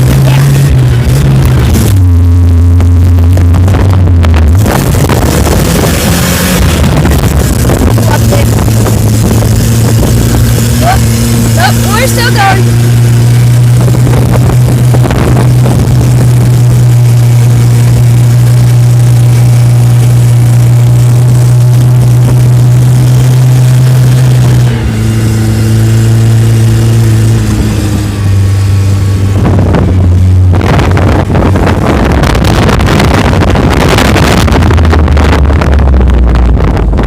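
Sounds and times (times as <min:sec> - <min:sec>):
loud distorted engine running: 0:00.0 - 0:37.0.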